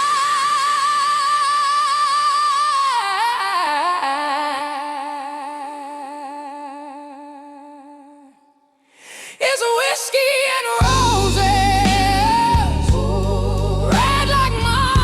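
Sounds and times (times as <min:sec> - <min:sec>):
woman singing with vibrato: 0:00.0 - 0:08.6, 0:09.3 - 0:15.0.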